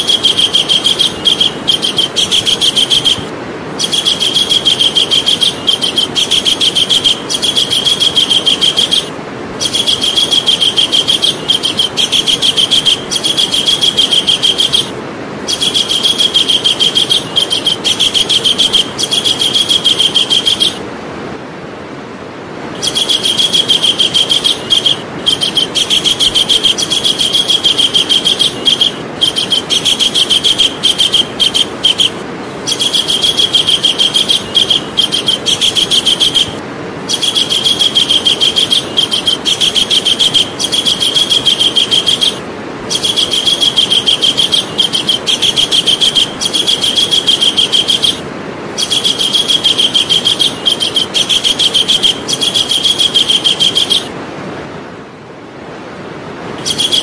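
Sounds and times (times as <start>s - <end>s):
kingfisher calling: 0.0s - 20.8s, 22.8s - 54.1s, 56.6s - 57.0s
steady background hiss: 0.0s - 57.0s.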